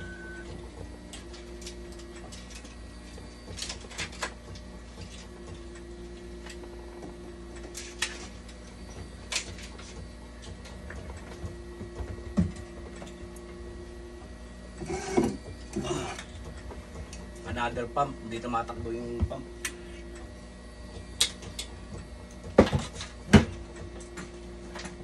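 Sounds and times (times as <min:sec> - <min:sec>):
machine low hum: 0:00.0 - 0:25.0.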